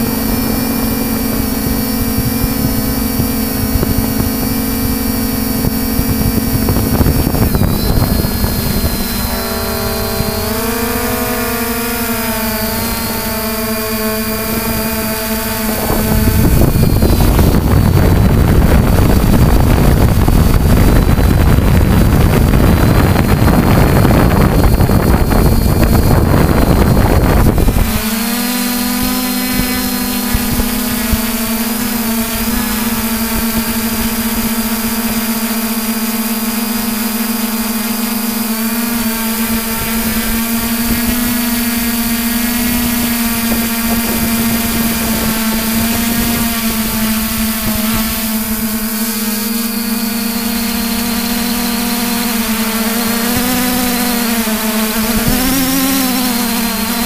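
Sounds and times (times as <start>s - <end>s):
drone motors whining: 0.0s - 57.0s.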